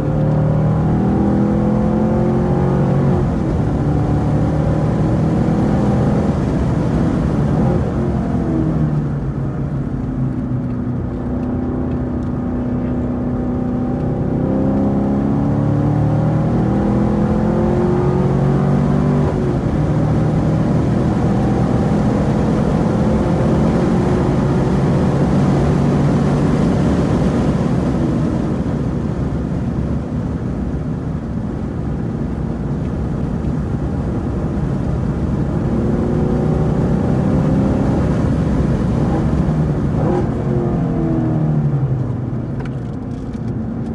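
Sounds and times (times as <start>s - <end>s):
car engine revving at speed: 0.0s - 43.9s.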